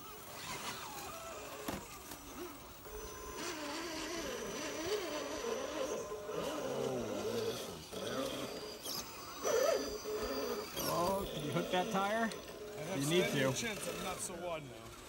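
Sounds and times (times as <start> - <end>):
rc car electric motors whining: 0.0 - 15.0.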